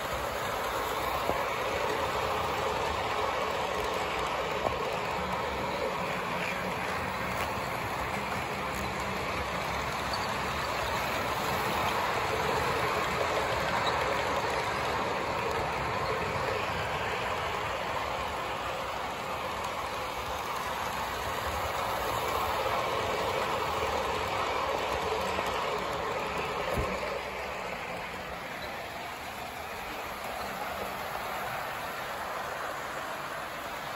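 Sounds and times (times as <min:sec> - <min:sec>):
model train rolling rumble: 0:00.0 - 0:33.9.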